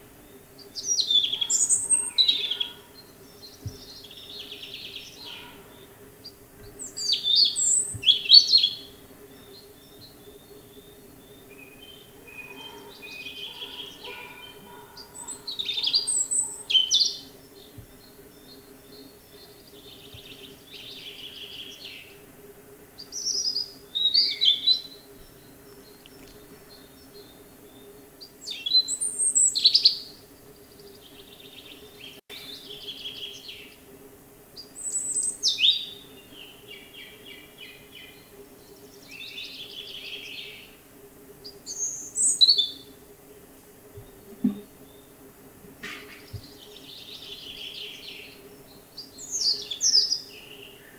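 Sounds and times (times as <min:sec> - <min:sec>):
robin singing: 0:00.0 - 0:22.3, 0:22.9 - 0:33.9, 0:34.5 - 0:45.3, 0:46.0 - 0:50.9
quieter bird song: 0:00.0 - 0:50.9.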